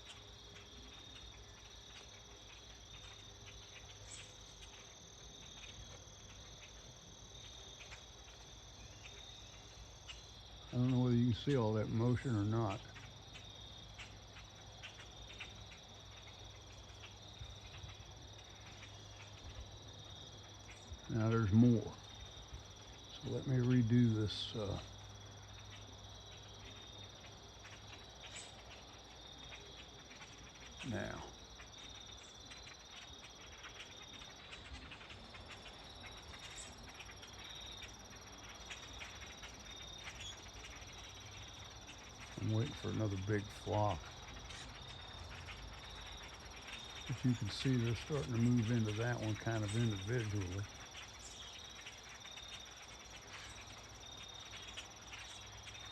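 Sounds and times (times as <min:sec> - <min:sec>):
bird chirps: 0:00.0 - 0:55.9
crickets trilling: 0:00.0 - 0:55.9.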